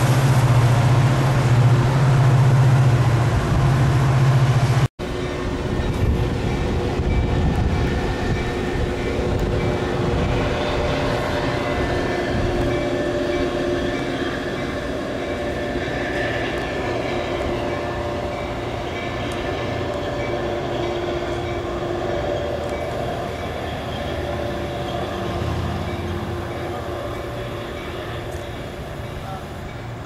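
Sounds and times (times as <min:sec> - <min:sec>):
train wheels rumbling on rails: 0:00.0 - 0:30.0
crossing bell dinging: 0:05.0 - 0:30.0.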